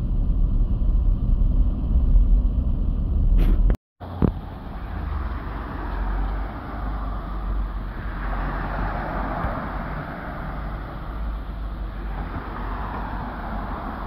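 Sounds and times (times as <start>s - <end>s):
car road noise and rumble: 0.0s - 14.0s.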